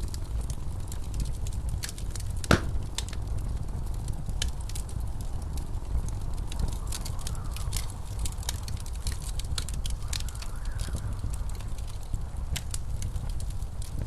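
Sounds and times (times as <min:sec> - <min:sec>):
blizzard wind rumble: 0:00.0 - 0:14.0
faint wind howl: 0:00.0 - 0:14.0
wood fire crackling and popping: 0:00.0 - 0:14.0.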